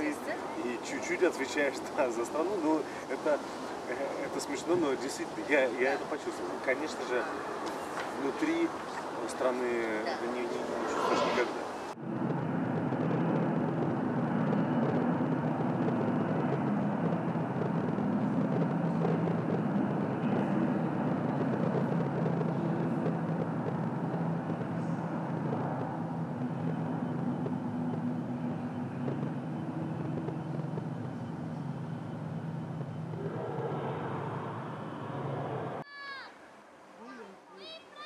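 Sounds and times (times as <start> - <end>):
rocket engines rumbling over loudspeakers: 0.0 - 35.9.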